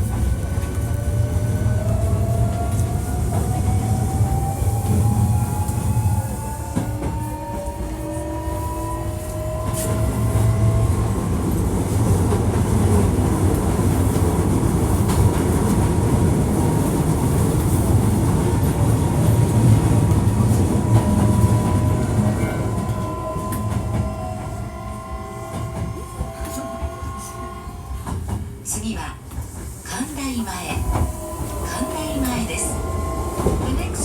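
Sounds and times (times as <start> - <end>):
train wheels rumbling on track: 0.0 - 34.0
rail clicks: 4.7 - 34.0.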